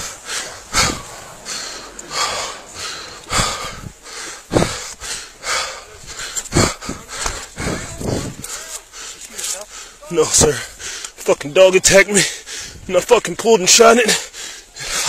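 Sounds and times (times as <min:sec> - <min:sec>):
heavy rapid breathing: 0:00.0 - 0:11.3, 0:12.0 - 0:13.0, 0:14.0 - 0:15.0.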